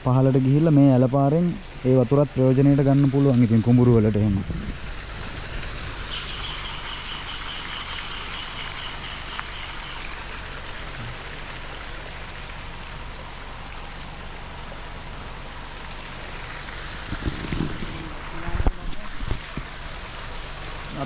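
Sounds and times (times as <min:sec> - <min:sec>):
water rushing downhill: 0:00.0 - 0:21.0.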